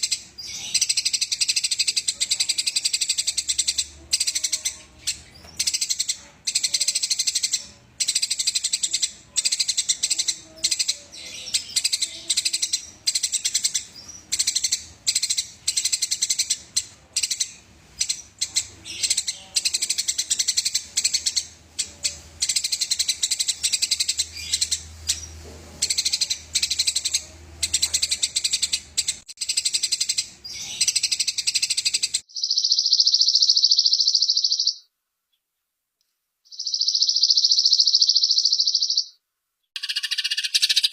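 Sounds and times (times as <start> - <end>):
high bird trill: 0.0 - 34.9, 36.5 - 39.2, 39.8 - 40.9
sparrow chattering: 0.0 - 34.9, 36.5 - 39.2, 39.8 - 40.9.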